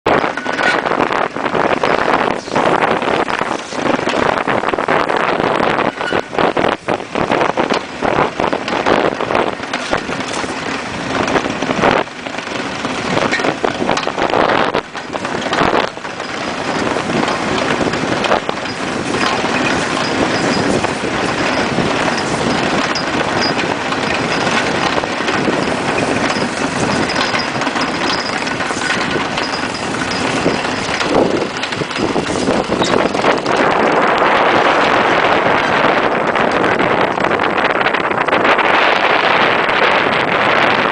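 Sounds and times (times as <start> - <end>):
knocks and rattles: 0.0 - 40.9
wind rushing over microphone: 0.0 - 40.9.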